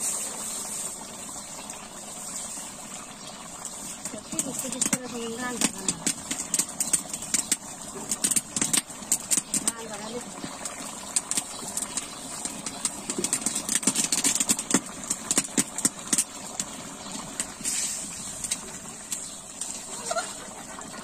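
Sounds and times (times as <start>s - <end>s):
wood fire crackling: 0.0s - 20.8s.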